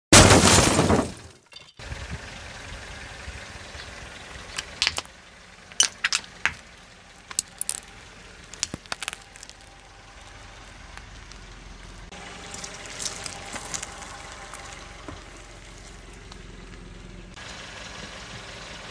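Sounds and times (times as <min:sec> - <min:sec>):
low rumble of rolling car: 0:00.2 - 0:18.9.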